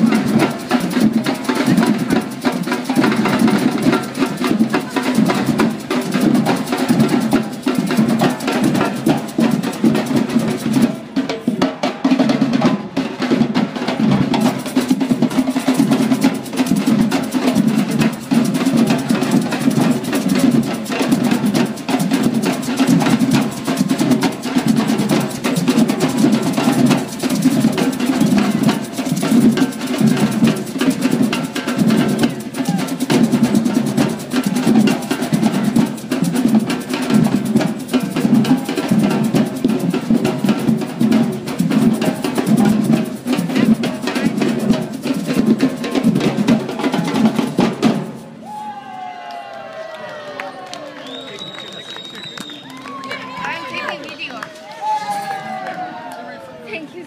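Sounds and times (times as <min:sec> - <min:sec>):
fast dense drumming: 0:00.0 - 0:48.3.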